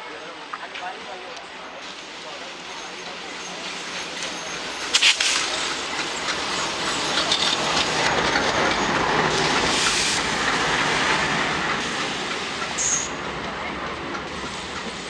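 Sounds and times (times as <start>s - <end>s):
train wheels running on rail: 0.3s - 15.0s.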